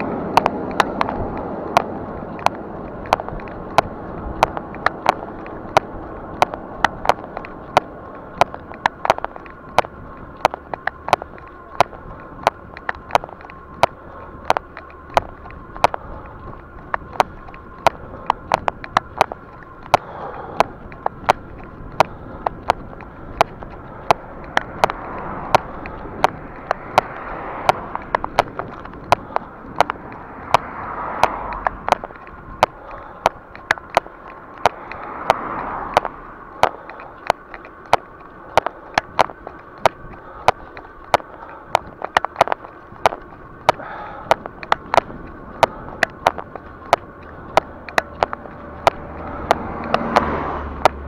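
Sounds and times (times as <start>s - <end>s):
riding noise hiss: 0.0s - 51.0s
road and wind noise: 0.0s - 51.0s
sharp clicks and rattles: 0.0s - 51.0s.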